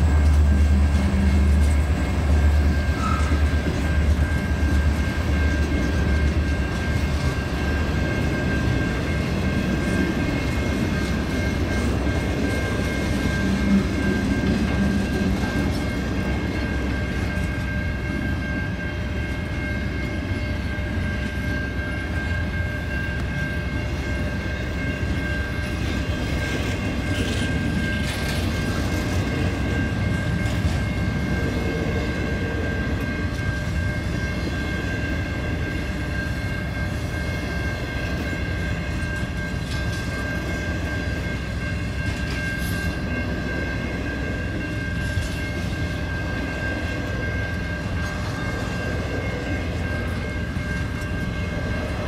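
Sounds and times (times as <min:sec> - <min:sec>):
wheel clickety-clack: 0:00.0 - 0:18.2, 0:23.1 - 0:52.0
freight train rolling past: 0:00.0 - 0:52.0.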